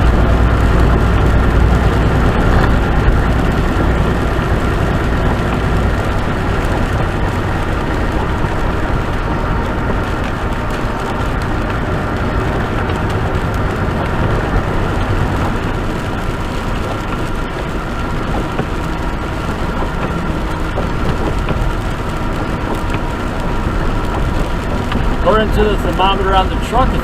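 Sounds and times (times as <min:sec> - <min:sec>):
truck engine: 0:00.0 - 0:27.0
tyres on wet pavement: 0:00.0 - 0:27.0.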